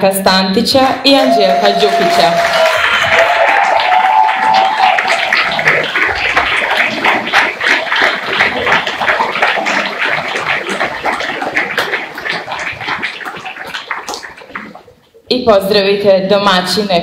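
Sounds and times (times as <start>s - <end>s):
audience applauding: 1.0s - 14.8s.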